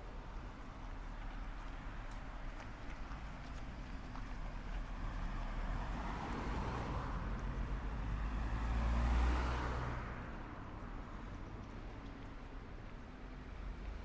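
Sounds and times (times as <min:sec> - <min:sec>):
cars passing by: 0:00.0 - 0:14.0.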